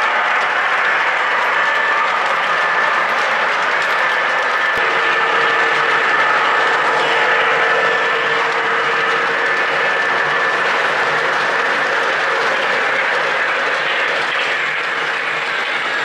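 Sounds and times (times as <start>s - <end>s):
model train wheels rumbling: 0.0s - 16.0s.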